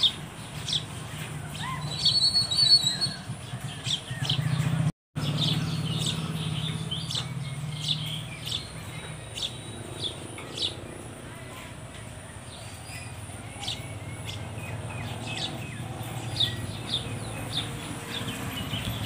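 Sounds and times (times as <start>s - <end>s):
sparrows chirping: 0.0s - 19.0s.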